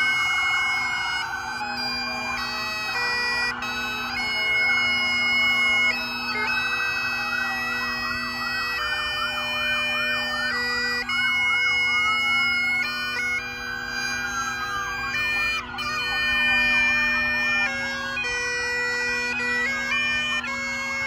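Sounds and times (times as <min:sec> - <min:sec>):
held-note melody over low drone: 0:00.0 - 0:21.0
police sirens wailing and yelping: 0:00.0 - 0:21.0.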